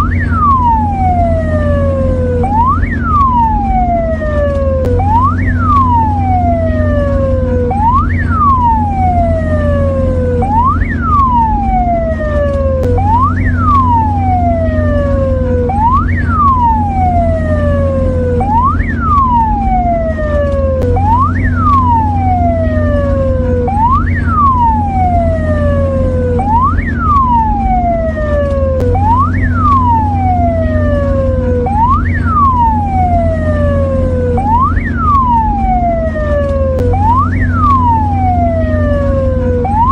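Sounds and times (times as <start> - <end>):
ambulance siren wailing: 0.0 - 39.9
steady low hum: 0.0 - 39.9.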